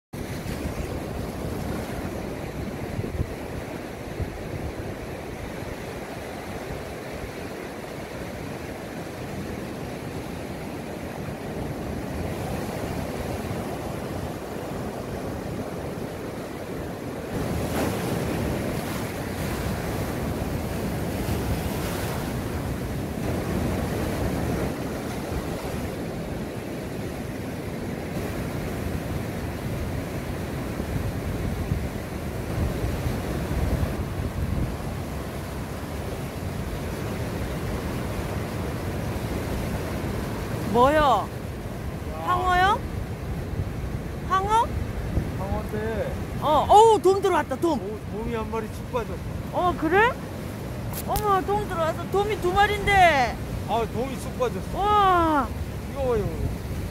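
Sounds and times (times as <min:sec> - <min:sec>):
rough sea surf breaking: 0:00.2 - 0:56.9
wind buffeting the microphone: 0:00.2 - 0:56.9.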